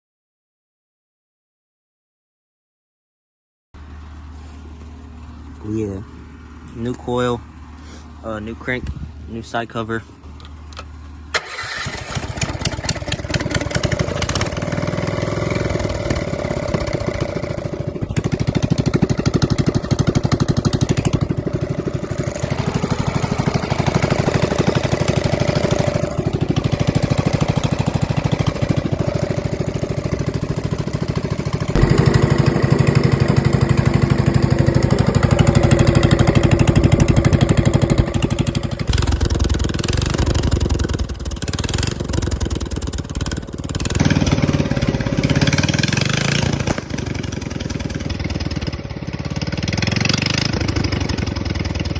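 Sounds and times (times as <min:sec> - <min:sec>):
single-cylinder engine running: 0:03.8 - 0:51.9.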